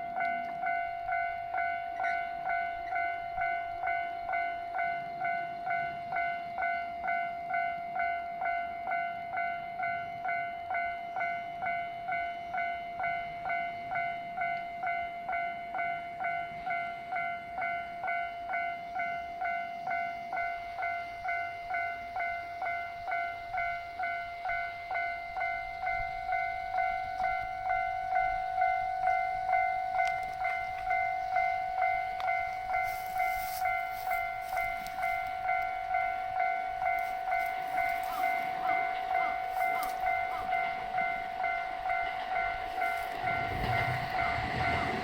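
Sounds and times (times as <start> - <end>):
level crossing warning bell: 0.0 - 45.0.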